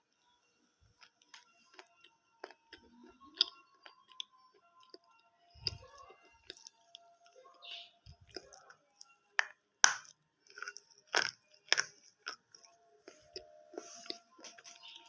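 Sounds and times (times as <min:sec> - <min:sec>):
person crunching brittle food: 0:00.9 - 0:15.0.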